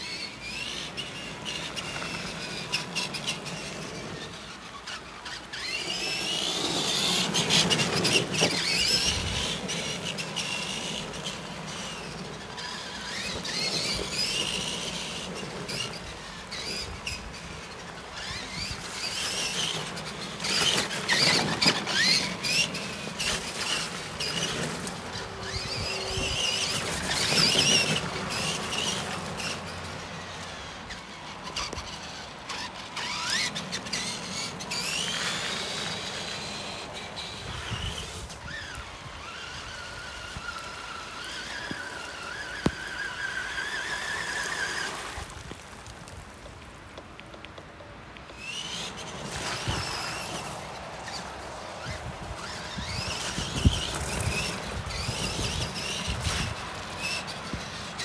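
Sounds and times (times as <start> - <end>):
rc truck motor whining: 0.0 - 58.0.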